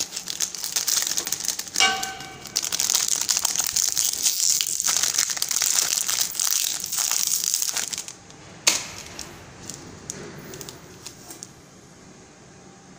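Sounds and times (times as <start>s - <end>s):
plastic bags crinkling: 0.0s - 11.5s.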